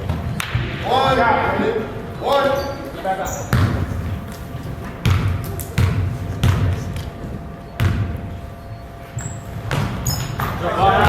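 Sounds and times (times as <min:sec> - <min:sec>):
basketball bouncing on gym floor: 0:00.0 - 0:01.2, 0:03.3 - 0:11.0.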